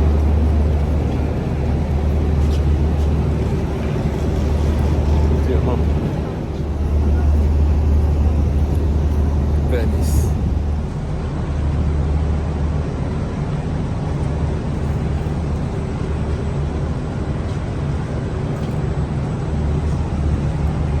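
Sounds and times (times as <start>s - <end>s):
train rumble and hiss inside carriage: 0.0s - 21.0s.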